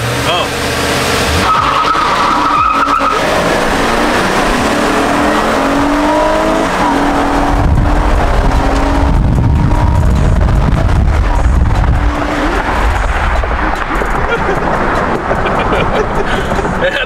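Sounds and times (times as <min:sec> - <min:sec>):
engines accelerating hard: 0:00.0 - 0:17.0
loud low rumble: 0:03.2 - 0:17.0.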